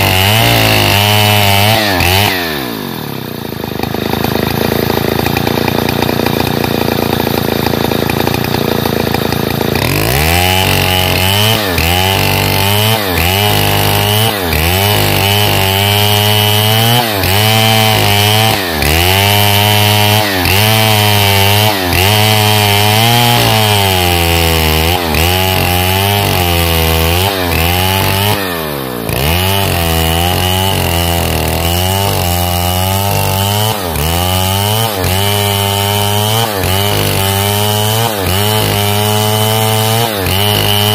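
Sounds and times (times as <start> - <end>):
chainsaw cutting log: 0.0 - 40.9
chainsaw idling: 0.0 - 40.9.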